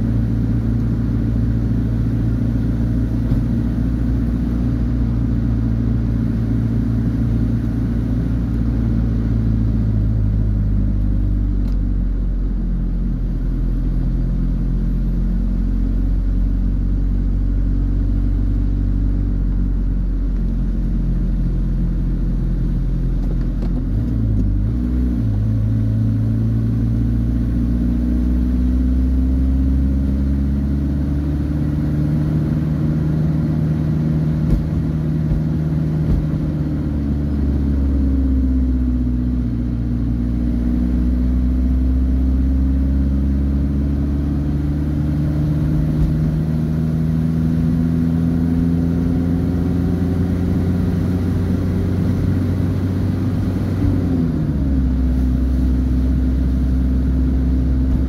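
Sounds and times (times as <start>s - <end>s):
vehicle engine humming: 0.0s - 58.0s.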